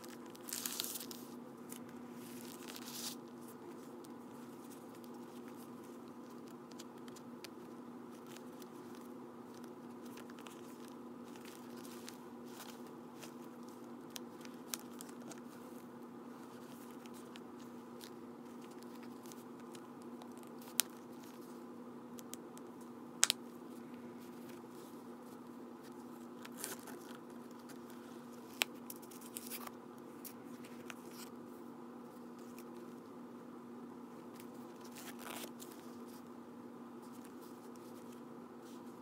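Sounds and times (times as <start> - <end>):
wallet rustling: 0.0 - 21.6, 23.2 - 31.3, 34.3 - 36.2
steady low hum: 0.0 - 39.0.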